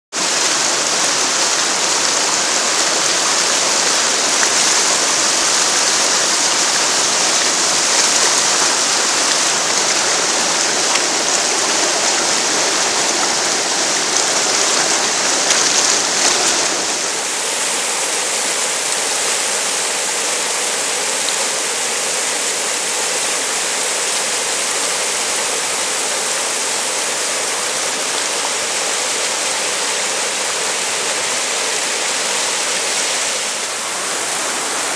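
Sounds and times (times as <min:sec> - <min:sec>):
whitewater rapids rushing over rocks: 0:00.1 - 0:34.9.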